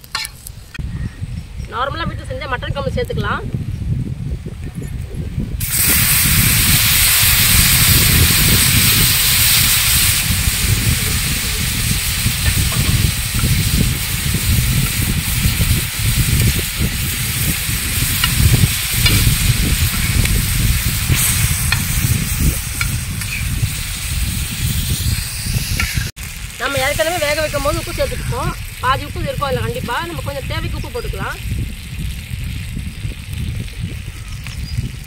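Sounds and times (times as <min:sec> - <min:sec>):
curry sizzling in hot pan: 0:05.6 - 0:35.0.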